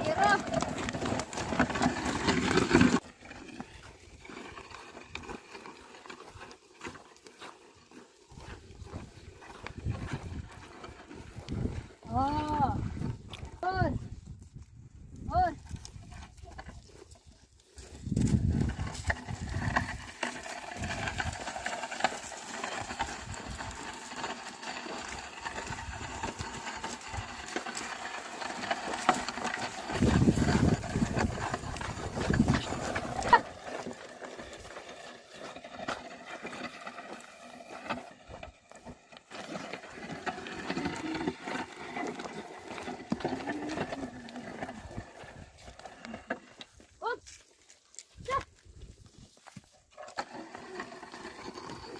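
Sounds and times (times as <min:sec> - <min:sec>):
oxen working: 0:00.0 - 0:14.4, 0:15.2 - 0:51.9.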